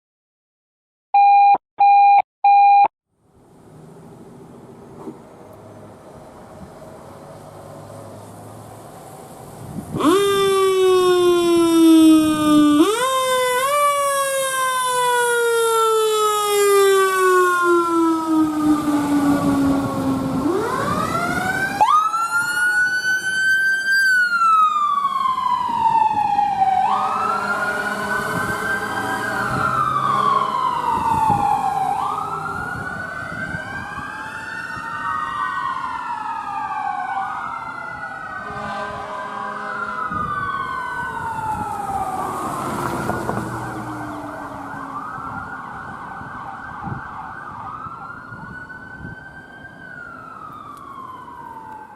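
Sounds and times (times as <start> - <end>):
emergency sirens wailing: 9.8 - 51.9.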